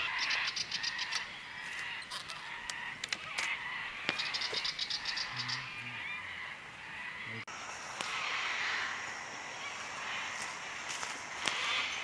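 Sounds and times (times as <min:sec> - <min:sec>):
background bird chorus: 0:00.0 - 0:12.0.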